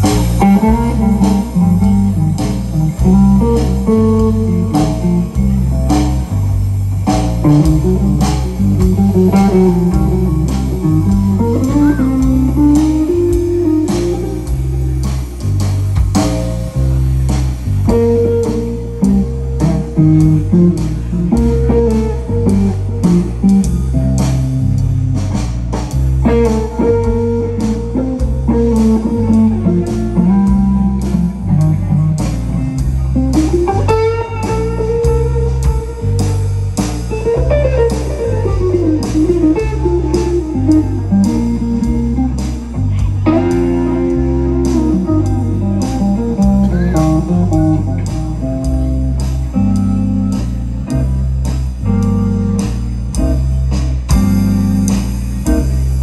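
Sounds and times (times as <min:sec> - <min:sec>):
drum kit: 0:00.0 - 0:56.0
electric bass: 0:00.0 - 0:56.0
electric guitar lead: 0:00.0 - 0:56.0.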